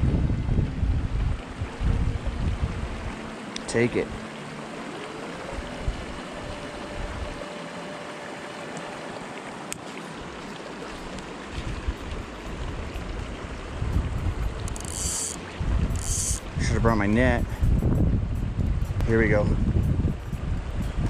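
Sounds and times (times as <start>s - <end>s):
mountain creek flowing: 0.0s - 17.9s.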